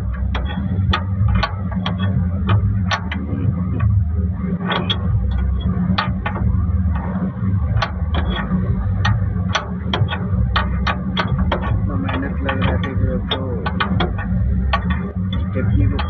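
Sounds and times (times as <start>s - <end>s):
tools clinking on truck wheel: 0.0s - 4.0s, 4.6s - 16.0s
vehicle engine rumbling: 0.0s - 16.0s.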